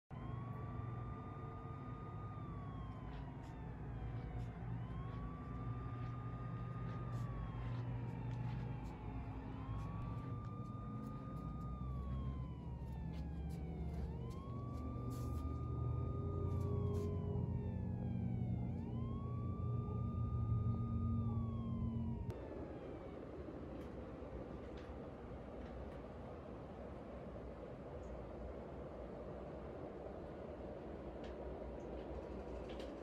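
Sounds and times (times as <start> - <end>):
emergency siren wailing: 0.1 - 33.0
low steady rumble: 0.1 - 33.0.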